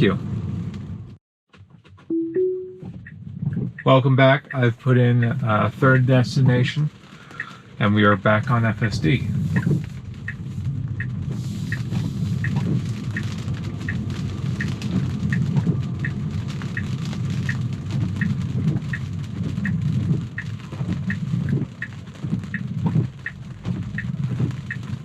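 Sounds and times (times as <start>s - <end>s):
tyres rumbling on wet road: 0.0s - 1.2s, 2.9s - 25.0s
rain on car: 0.0s - 25.0s
turn signal ticking: 1.5s - 25.0s.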